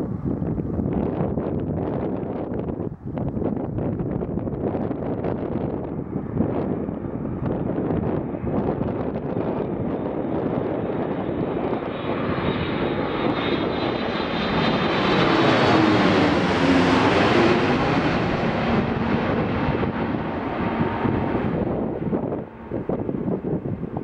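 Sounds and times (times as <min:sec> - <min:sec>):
high jet fan whine: 0:00.0 - 0:24.0
jet airliner passing overhead: 0:00.0 - 0:24.0.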